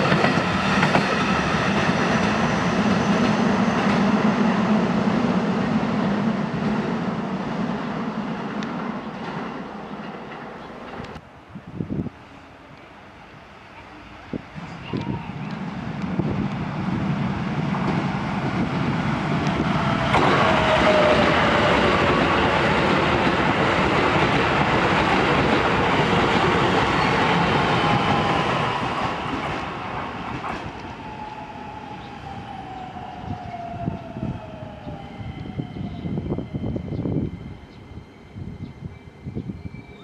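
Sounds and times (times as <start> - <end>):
train wheels rumbling on track: 0.0 - 11.3, 13.6 - 40.0.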